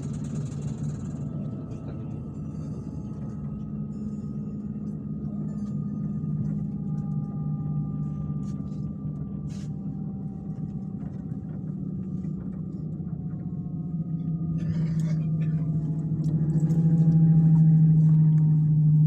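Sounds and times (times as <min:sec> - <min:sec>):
faint steady whine: 0:00.0 - 0:19.0
train carriage rumbling: 0:00.0 - 0:19.0.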